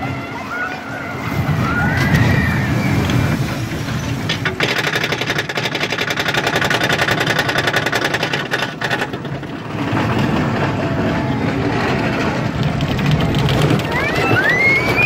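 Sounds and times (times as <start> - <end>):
wheels rumbling on steel track: 0.0 - 15.0.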